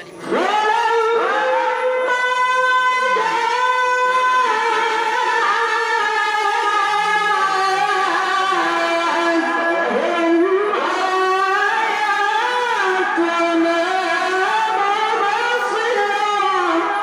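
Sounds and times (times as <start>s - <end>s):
person reciting melodically: 0.0s - 17.0s.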